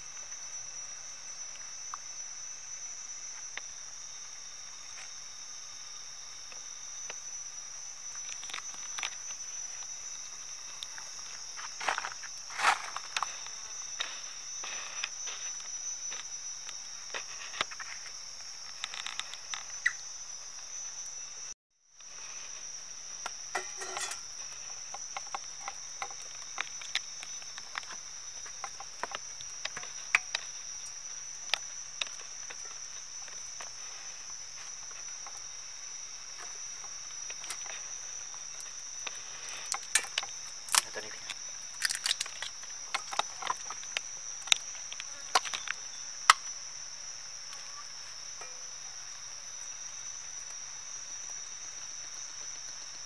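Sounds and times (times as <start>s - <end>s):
crickets chirring: 0.0s - 53.0s.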